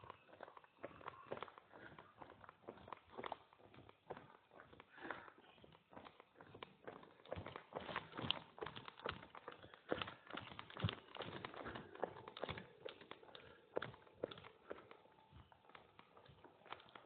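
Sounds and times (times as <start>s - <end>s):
footsteps on rough footpath: 0.0s - 17.0s.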